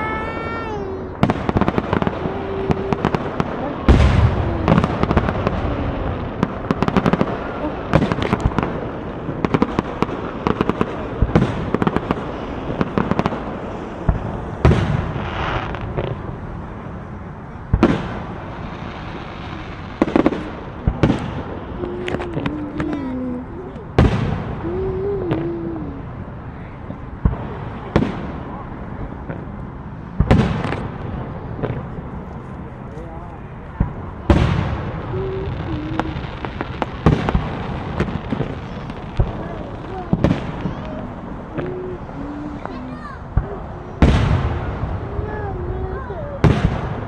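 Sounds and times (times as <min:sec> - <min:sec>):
sharp firework bangs: 0:00.0 - 0:17.0, 0:17.7 - 0:25.5, 0:26.1 - 0:32.2, 0:33.4 - 0:45.6, 0:46.2 - 0:47.0
heavy firework boom: 0:00.0 - 0:17.1, 0:17.7 - 0:32.2, 0:33.1 - 0:47.0
firecrackers crackling: 0:00.0 - 0:47.0.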